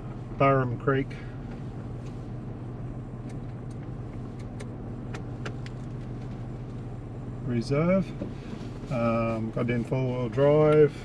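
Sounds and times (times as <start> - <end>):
vehicle engine humming in cabin: 0.0 - 11.0.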